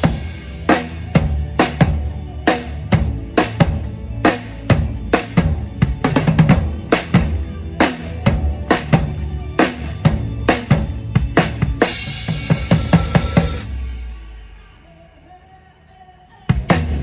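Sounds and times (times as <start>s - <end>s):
drum kit through pa: 0.0s - 14.8s, 16.5s - 17.0s.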